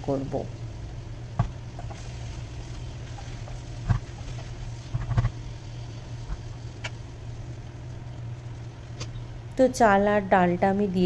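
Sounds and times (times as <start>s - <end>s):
induction cooktop hum: 0.0s - 11.0s.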